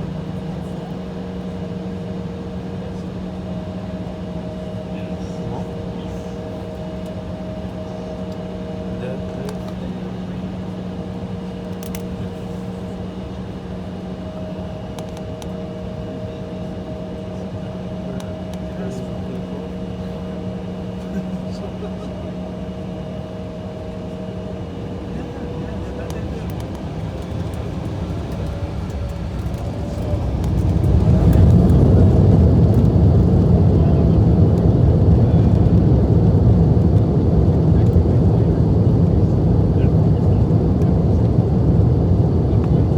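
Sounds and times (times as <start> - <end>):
faint engine whine: 0.0 - 42.9
jet cabin drone: 0.0 - 42.9.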